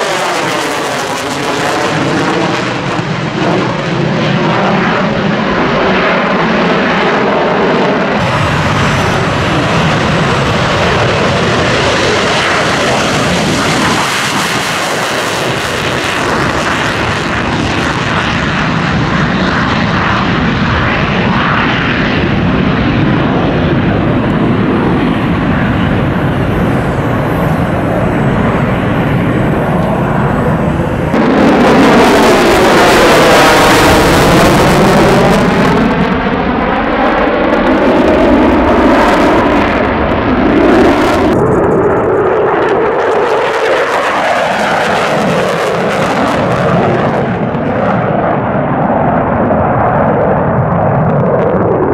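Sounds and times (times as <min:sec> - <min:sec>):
fighter jet: 0:00.0 - 0:51.9
jet taking off loud: 0:00.0 - 0:51.9.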